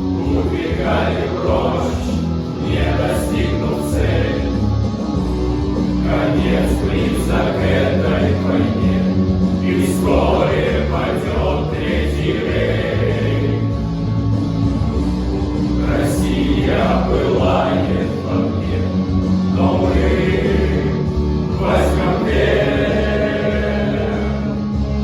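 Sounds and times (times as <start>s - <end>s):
male choir singing: 0.0s - 5.0s, 5.8s - 14.1s, 15.7s - 25.0s
music: 0.0s - 25.0s.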